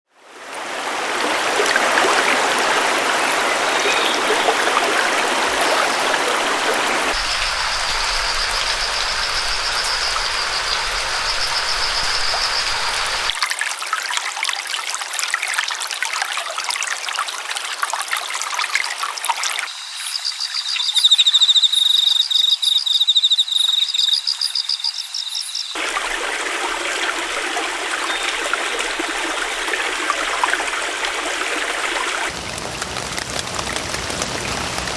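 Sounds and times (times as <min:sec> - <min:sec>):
stream water rushing: 0:00.2 - 0:13.4, 0:19.7 - 0:34.9.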